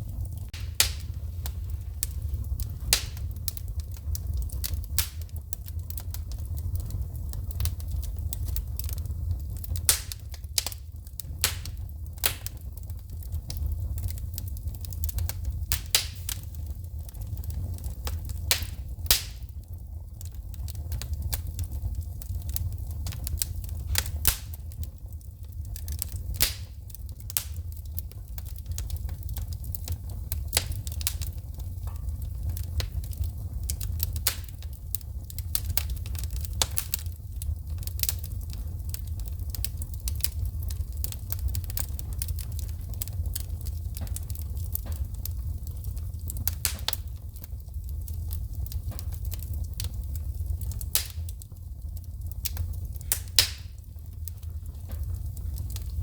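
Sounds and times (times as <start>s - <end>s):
fire low rumble: 0.0s - 56.0s
sparks popping and snapping: 0.0s - 56.0s
wood fire crackling: 0.0s - 56.0s.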